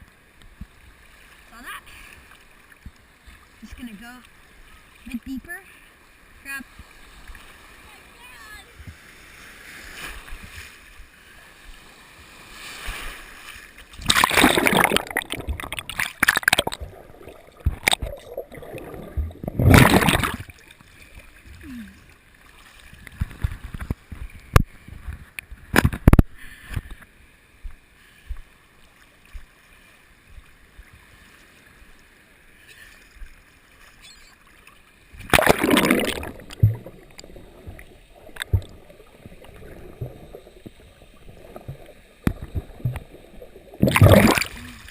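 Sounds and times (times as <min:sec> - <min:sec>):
seawater splashing and rushing: 0:00.8 - 0:25.0, 0:29.1 - 0:44.9.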